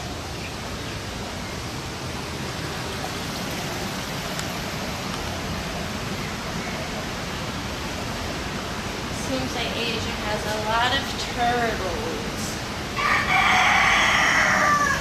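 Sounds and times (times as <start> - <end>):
falling water rushing: 0.0 - 15.0.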